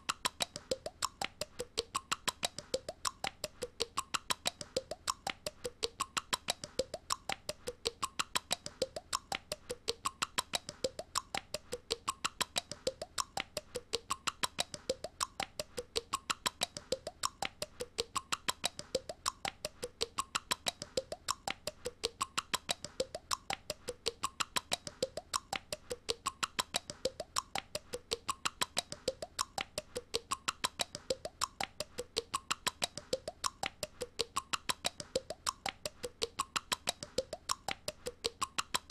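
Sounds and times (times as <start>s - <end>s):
girl making clicking mouth noise: 0.0s - 38.9s.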